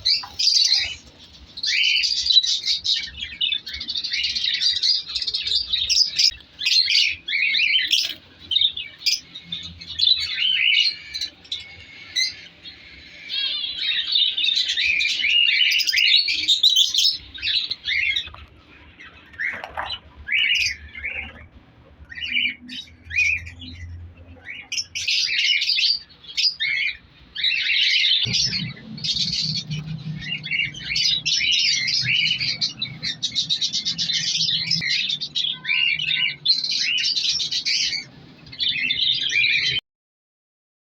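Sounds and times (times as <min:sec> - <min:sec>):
lovebirds chirping: 0:00.0 - 0:39.8.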